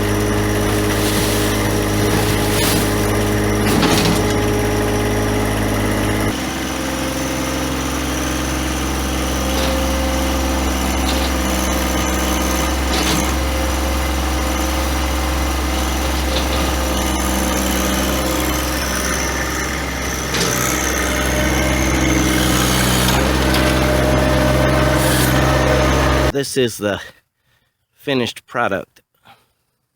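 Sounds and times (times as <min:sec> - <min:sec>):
engine running: 0:00.0 - 0:26.3.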